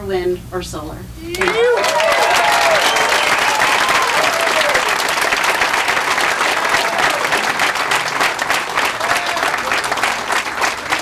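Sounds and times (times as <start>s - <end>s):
crowd applauding: 1.3s - 11.0s.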